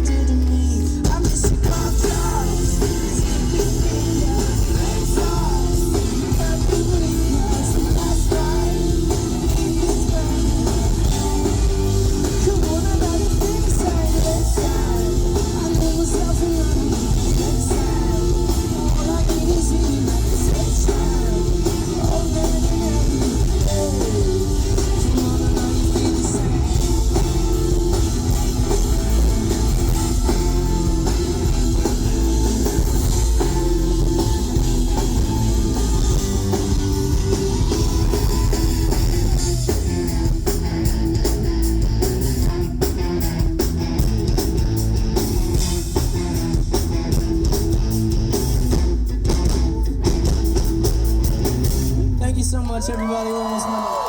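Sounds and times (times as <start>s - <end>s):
drum kit: 0.0s - 52.6s
electric guitars: 0.0s - 54.0s.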